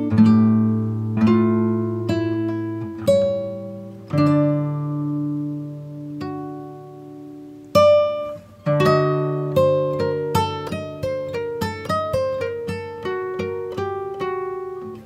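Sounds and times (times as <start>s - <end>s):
acoustic guitar plucking: 0.0s - 15.0s.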